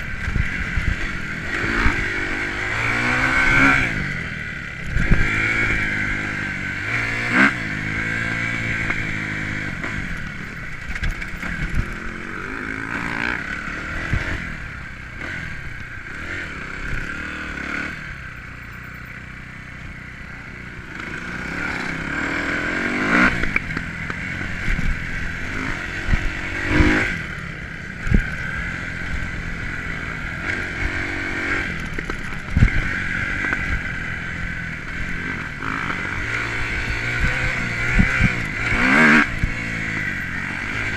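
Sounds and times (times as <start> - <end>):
motocross engine revving: 0.0 - 18.4, 19.8 - 40.9.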